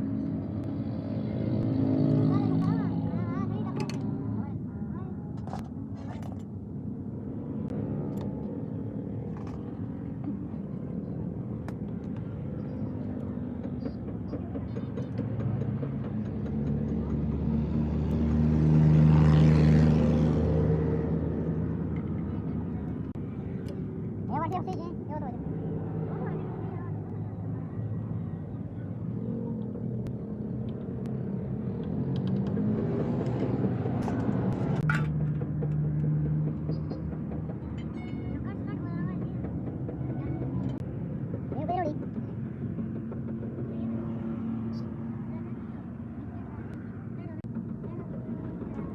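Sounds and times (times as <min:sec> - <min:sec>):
vehicle engine passing: 0:00.0 - 0:05.6, 0:07.0 - 0:48.9.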